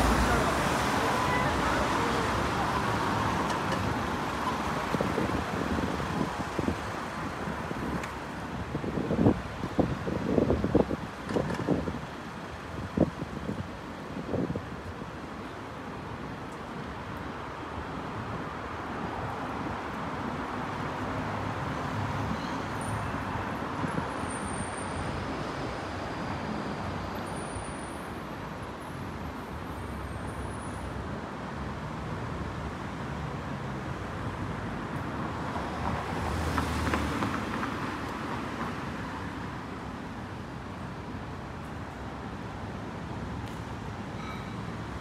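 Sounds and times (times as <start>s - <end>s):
street traffic hum: 0.0s - 45.0s.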